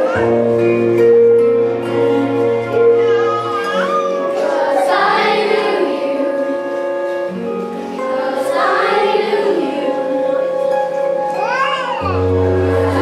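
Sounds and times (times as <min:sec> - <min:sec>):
instrumental backing track: 0:00.0 - 0:13.0
children's choir singing: 0:01.8 - 0:13.0.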